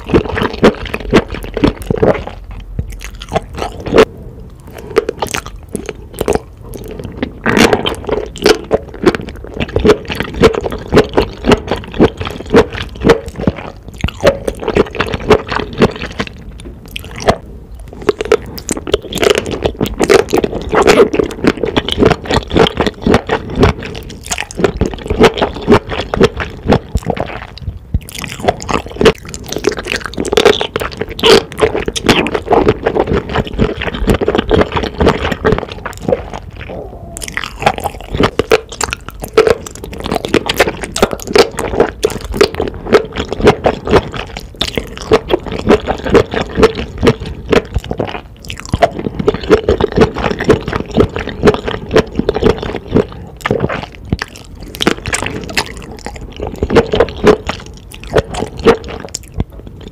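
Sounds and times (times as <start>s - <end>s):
wet chewing and squishing: 0.0s - 59.9s.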